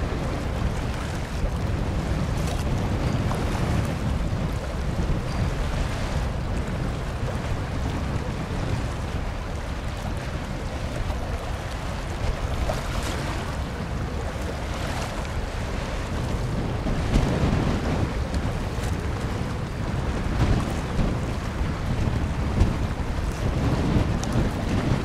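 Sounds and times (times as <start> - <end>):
choppy sea water hissing: 0.0 - 25.0
wind buffeting microphone: 0.0 - 25.0.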